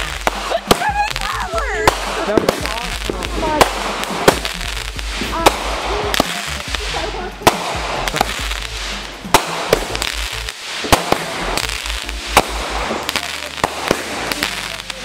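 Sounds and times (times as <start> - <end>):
firework bangs: 0.0 - 15.0
fizzing sparks hiss: 0.0 - 15.0.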